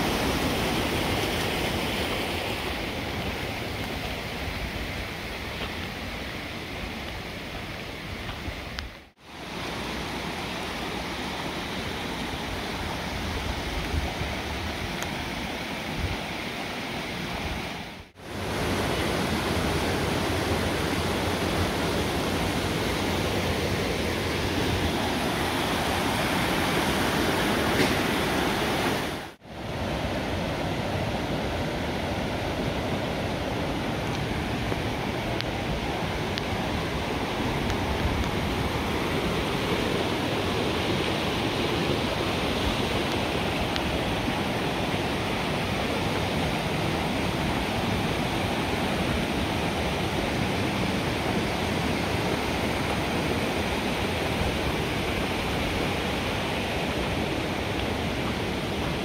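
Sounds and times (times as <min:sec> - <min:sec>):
brook water rushing over rocks: 0:00.0 - 0:59.0.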